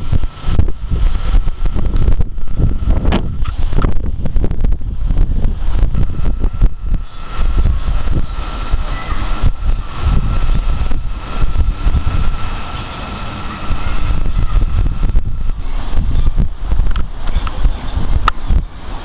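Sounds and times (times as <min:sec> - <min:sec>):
faint high whine: 0:00.0 - 0:19.0
wind buffeting microphone: 0:00.0 - 0:19.0.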